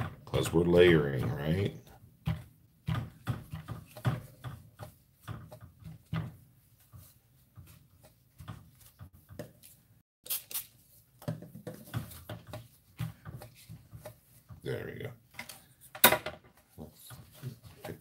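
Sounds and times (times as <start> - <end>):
paper towel tapping paper: 0.0 - 10.0, 11.0 - 18.0.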